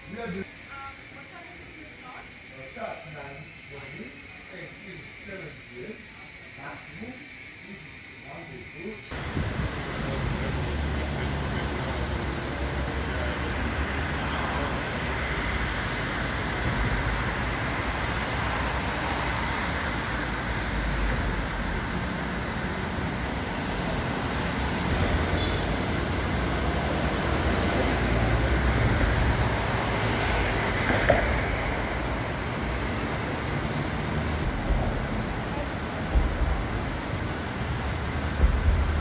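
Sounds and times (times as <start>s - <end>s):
traffic: 0.0s - 39.0s.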